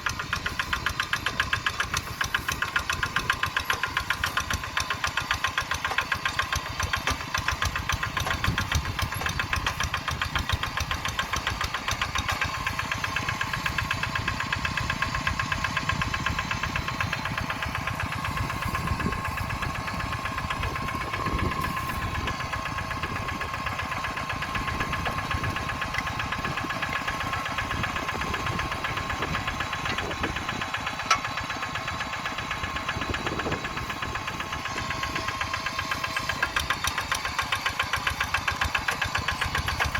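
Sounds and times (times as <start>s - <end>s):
diesel engine knocking: 0.0s - 39.9s.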